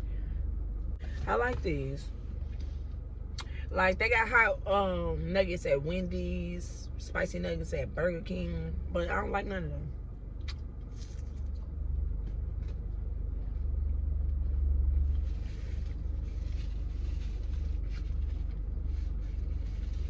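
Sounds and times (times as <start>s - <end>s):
low rumble inside car: 0.0s - 20.0s.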